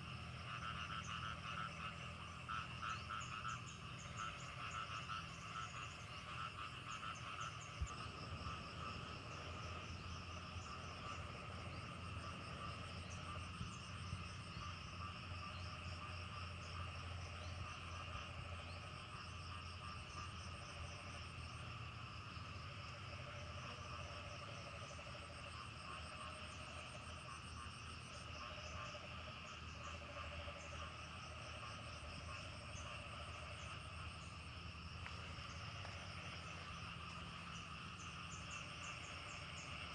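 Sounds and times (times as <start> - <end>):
frogs calling: 0.0 - 39.9
insects trilling: 0.0 - 39.9.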